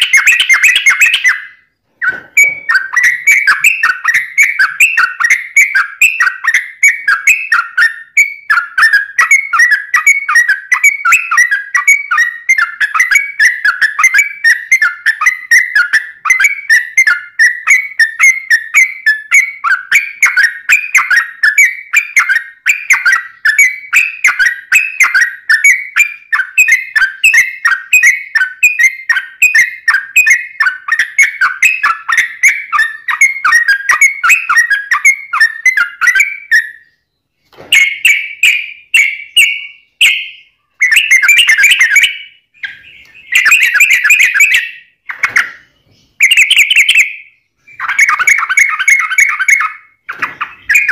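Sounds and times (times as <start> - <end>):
bird singing chirping warbling notes: 0.0 - 50.9.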